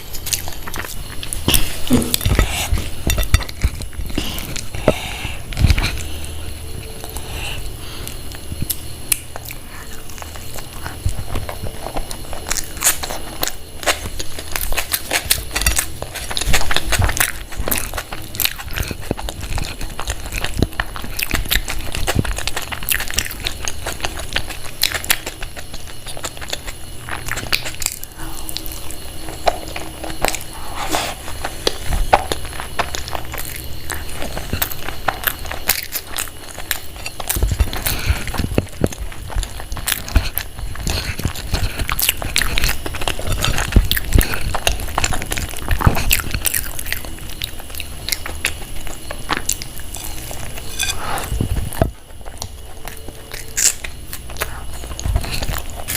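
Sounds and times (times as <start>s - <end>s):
person chewing and lip smacking: 0.0s - 55.9s
steady low hum: 0.0s - 55.9s.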